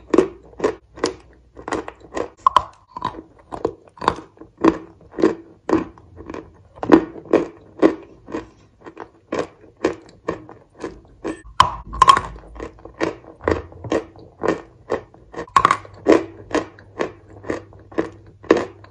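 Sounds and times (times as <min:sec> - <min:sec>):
person chewing crunchy cookies: 0:00.0 - 0:18.9.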